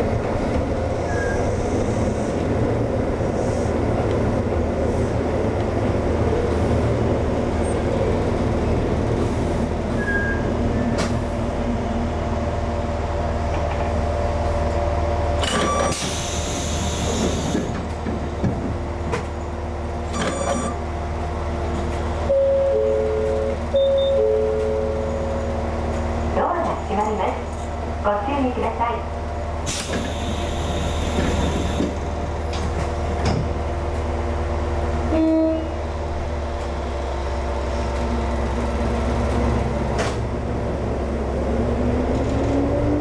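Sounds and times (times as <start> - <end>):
electric train rumbling: 0.0 - 43.0.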